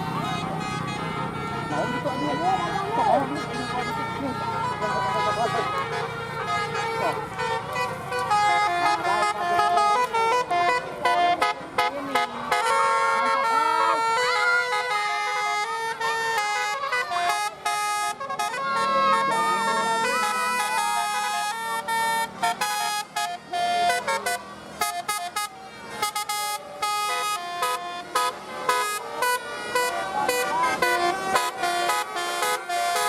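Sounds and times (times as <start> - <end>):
bus horn playing a melody: 0.0 - 33.0.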